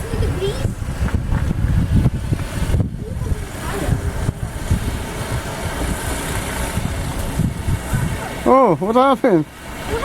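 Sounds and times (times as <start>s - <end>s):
wind gusting across microphone: 0.0s - 10.0s.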